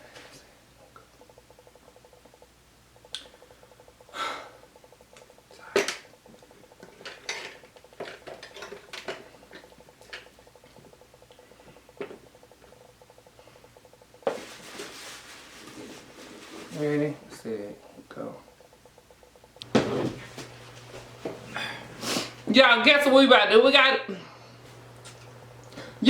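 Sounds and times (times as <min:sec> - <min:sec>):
faint electrical buzz: 0:00.0 - 0:26.0.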